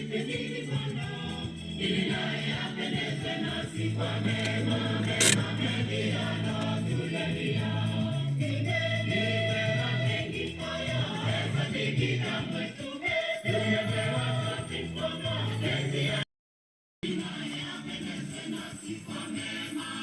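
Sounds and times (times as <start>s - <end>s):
gospel choir singing: 0.0s - 16.2s, 17.1s - 20.0s.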